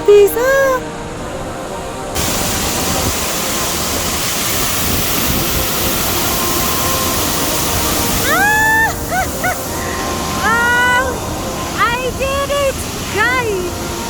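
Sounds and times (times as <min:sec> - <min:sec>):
waterfall rushing: 0:02.0 - 0:14.0.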